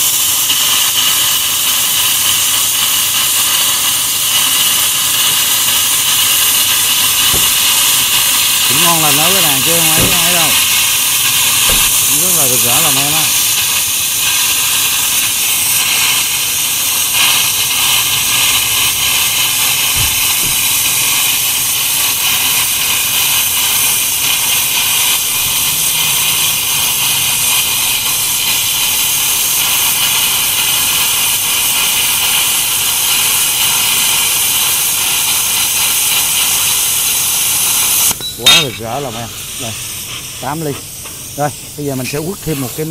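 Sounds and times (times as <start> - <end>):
plasma cutter hissing: 0.0 - 42.9.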